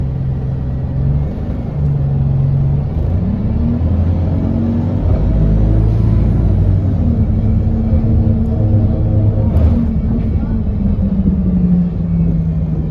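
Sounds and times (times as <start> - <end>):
bus engine drone: 0.0 - 12.9.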